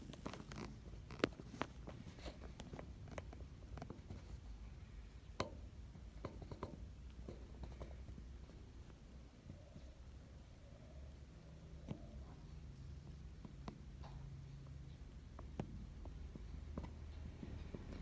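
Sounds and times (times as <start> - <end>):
birds pecking at rice grains: 0.0 - 18.0.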